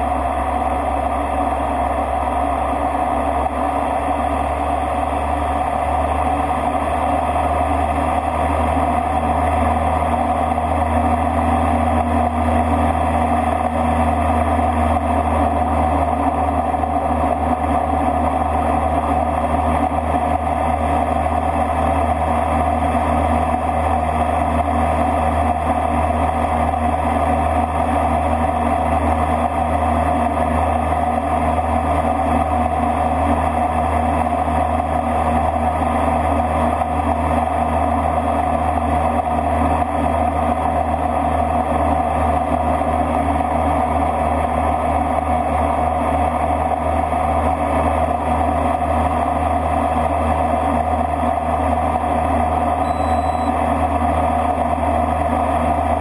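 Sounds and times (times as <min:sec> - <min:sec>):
constant engine whine: 0:00.0 - 0:56.0
turboprop propeller drone: 0:00.0 - 0:56.0.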